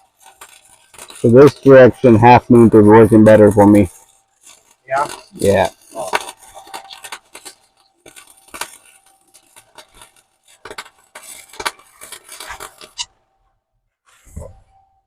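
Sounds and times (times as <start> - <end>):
welding arc crackling: 0.0 - 13.4.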